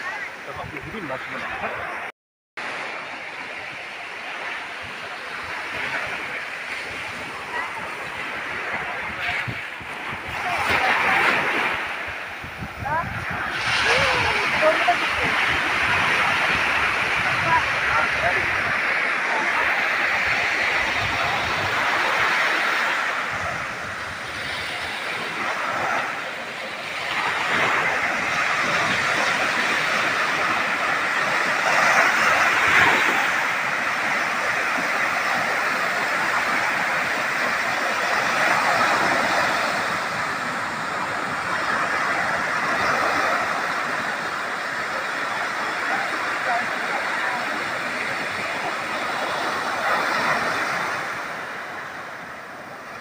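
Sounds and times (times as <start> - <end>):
ocean surf on sandy beach: 0.0 - 53.0.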